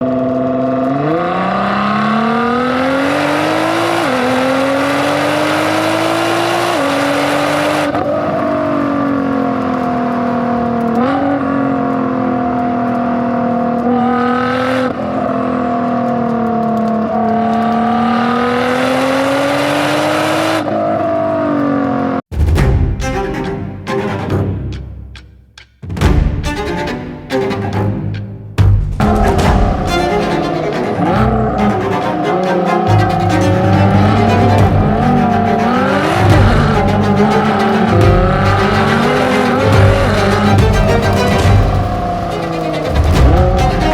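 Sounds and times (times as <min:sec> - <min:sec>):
car engine accelerating: 0:00.0 - 0:22.3, 0:29.0 - 0:43.9.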